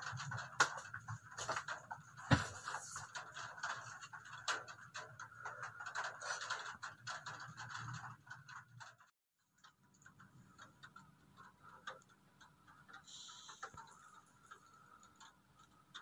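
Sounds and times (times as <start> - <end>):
raindrops ticking on hard surface: 0.0 - 16.0.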